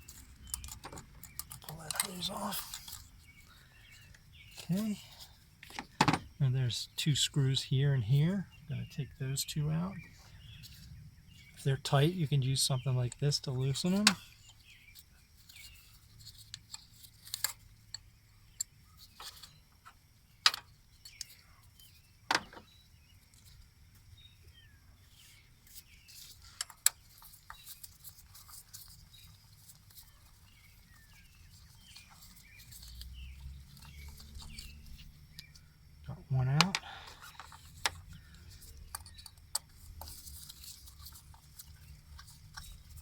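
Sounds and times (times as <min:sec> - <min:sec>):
faint bird chirps: 0:00.0 - 0:43.0.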